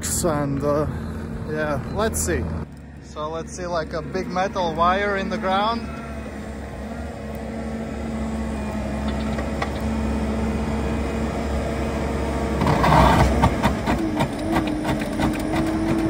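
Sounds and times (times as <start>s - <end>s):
skid steer engine humming: 0.0s - 16.0s.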